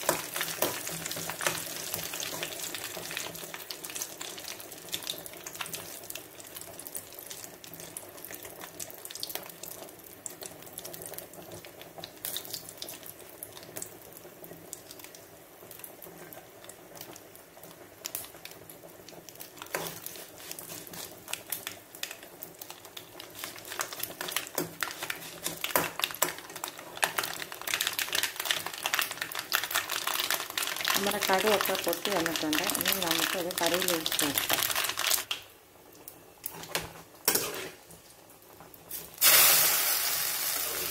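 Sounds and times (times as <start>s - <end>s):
seeds sizzling in oil: 0.0s - 40.9s.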